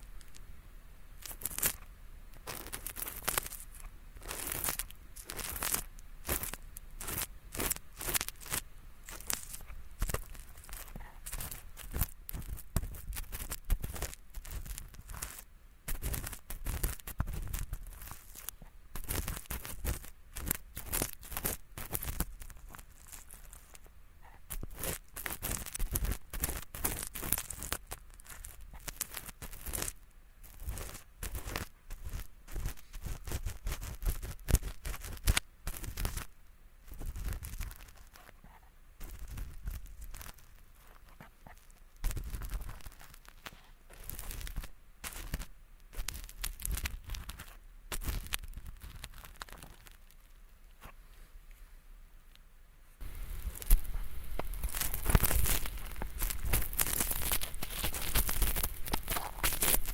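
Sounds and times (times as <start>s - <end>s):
ear pick scratching earwax: 1.2s - 51.0s, 53.0s - 59.9s.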